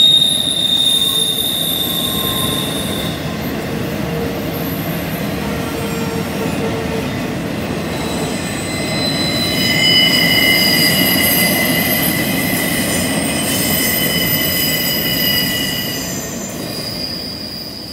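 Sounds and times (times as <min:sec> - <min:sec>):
rail cars rumbling: 0:00.0 - 0:17.9
train wheels squealing: 0:00.0 - 0:17.9.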